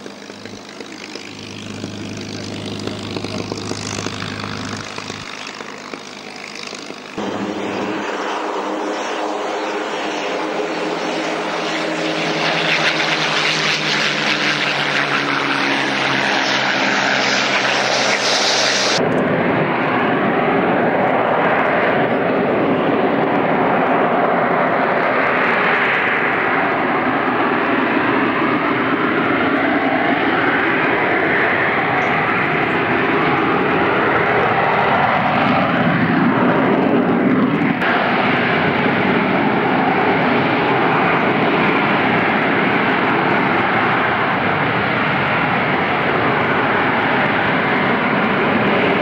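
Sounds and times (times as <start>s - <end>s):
jet engine roar: 0.0s - 49.0s.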